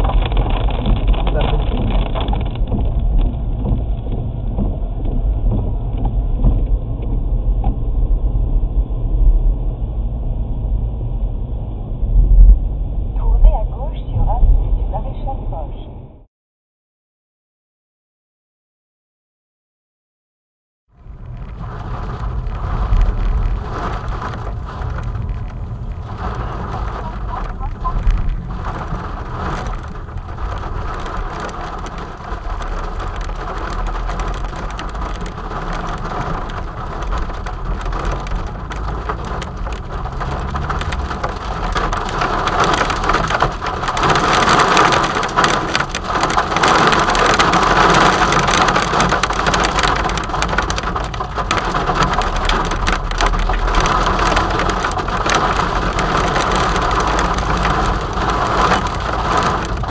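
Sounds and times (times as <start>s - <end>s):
heavy rain drumming on car roof: 0.0s - 9.2s, 21.0s - 59.9s
tyres on wet road: 0.0s - 16.1s, 20.9s - 59.9s
car engine: 0.0s - 16.2s, 20.9s - 59.9s.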